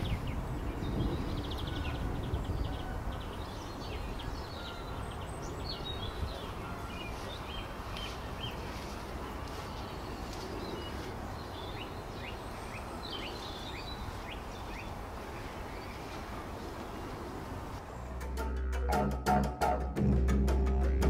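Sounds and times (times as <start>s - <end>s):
small birds chirping: 0.0s - 18.1s
low outdoor background noise: 0.0s - 21.0s.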